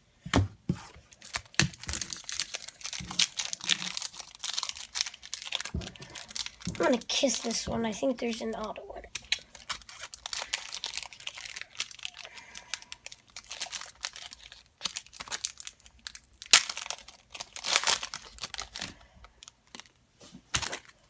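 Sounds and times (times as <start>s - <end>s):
card pack wrapper crinkling: 1.0s - 21.0s.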